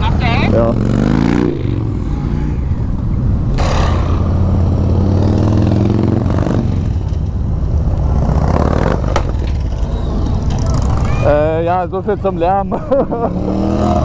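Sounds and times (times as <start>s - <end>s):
motorcycle engine revving: 0.0s - 11.2s, 13.1s - 14.0s
motorcycle engines running: 0.0s - 14.0s.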